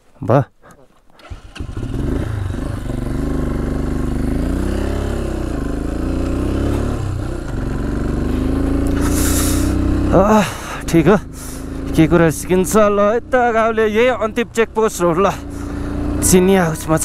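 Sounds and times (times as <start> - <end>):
vehicle engine revving: 1.2 - 17.0.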